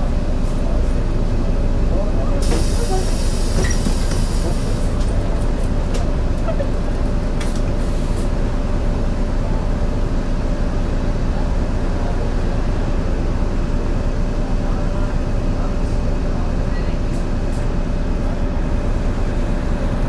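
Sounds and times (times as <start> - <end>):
bus engine rumble: 0.0 - 20.0.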